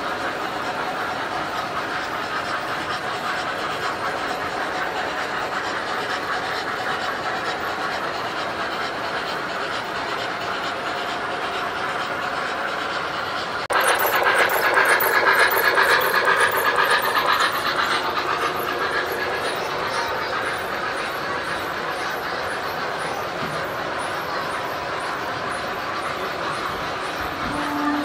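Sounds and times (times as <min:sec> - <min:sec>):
model train motors humming: 0:00.0 - 0:28.0
model train wheels clattering: 0:00.0 - 0:28.0.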